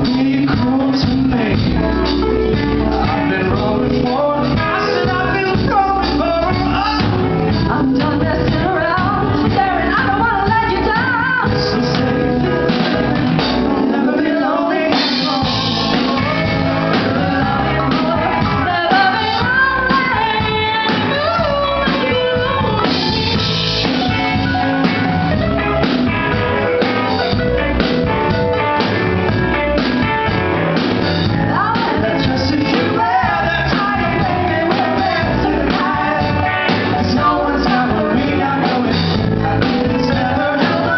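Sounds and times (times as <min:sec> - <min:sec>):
woman and man singing duet: 0:00.0 - 0:12.8, 0:13.6 - 0:25.4, 0:31.2 - 0:40.9
bass guitar: 0:00.0 - 0:40.9
drum kit: 0:00.0 - 0:40.9
electric guitar: 0:00.0 - 0:40.9.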